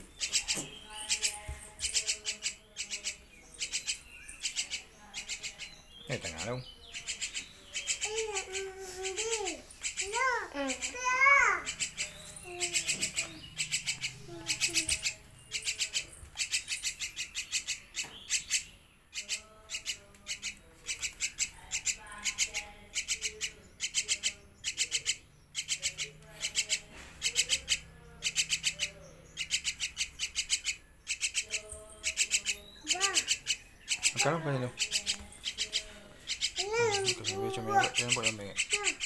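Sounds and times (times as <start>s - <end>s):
nestling chirping: 0.0s - 39.0s.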